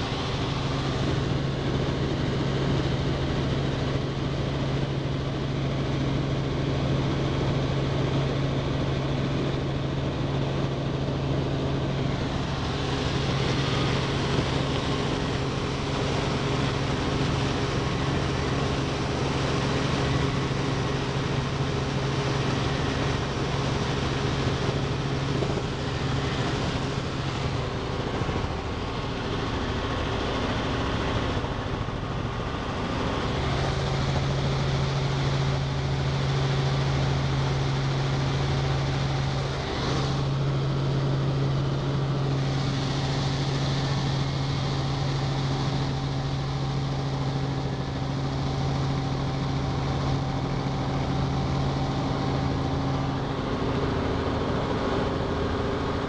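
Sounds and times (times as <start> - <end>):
constant low hum: 0.0 - 56.0
helicopter drone in cabin: 0.0 - 56.0.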